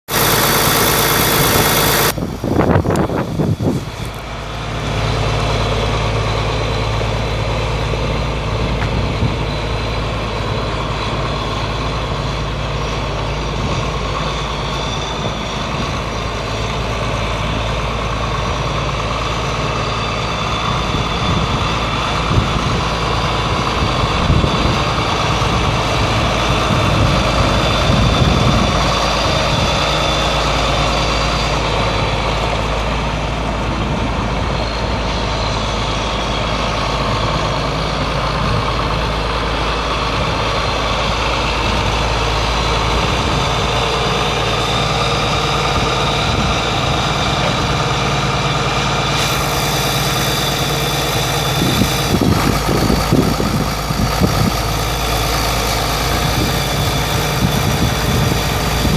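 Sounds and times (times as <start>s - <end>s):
tractor diesel engine idling: 0.0s - 58.9s.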